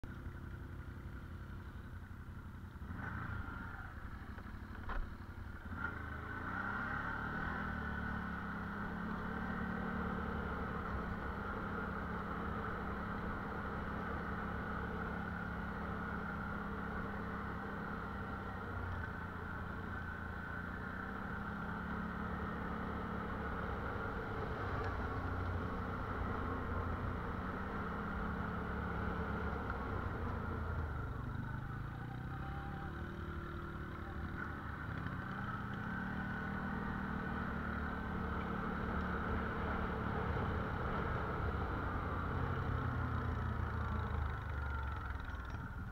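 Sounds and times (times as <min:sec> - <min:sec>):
quad engine running: 0:00.1 - 0:45.9.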